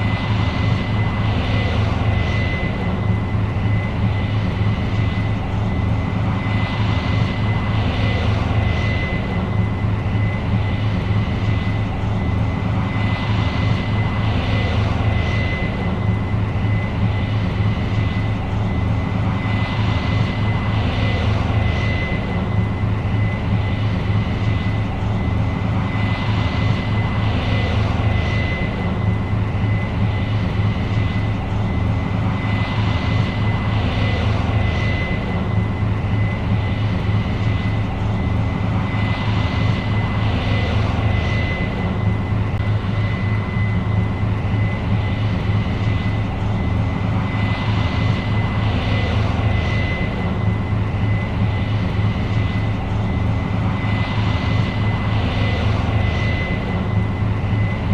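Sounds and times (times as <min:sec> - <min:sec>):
combine engine and machinery drone: 0:00.0 - 0:57.9
high-pitched whine: 0:00.0 - 0:57.9.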